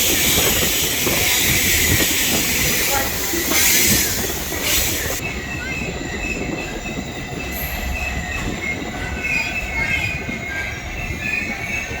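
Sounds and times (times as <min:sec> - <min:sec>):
train cars rumbling: 0:00.0 - 0:12.0.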